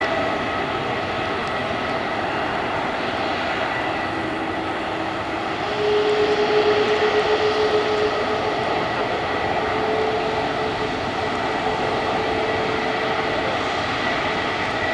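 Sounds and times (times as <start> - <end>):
jet engines whining: 0.0 - 14.9.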